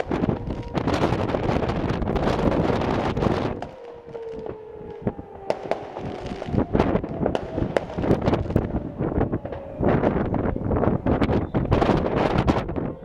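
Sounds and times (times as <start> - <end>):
distant fireworks bangs and crackles: 0.0 - 12.6
wind buffeting microphone: 0.0 - 13.0.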